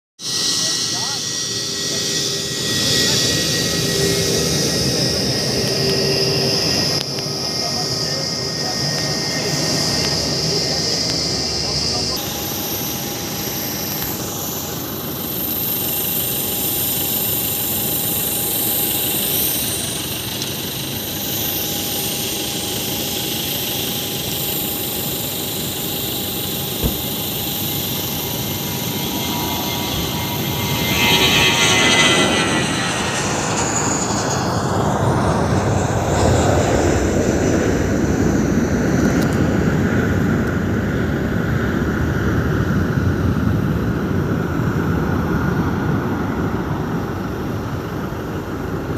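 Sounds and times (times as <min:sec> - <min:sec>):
jet engines at takeoff: 0:00.2 - 0:48.9.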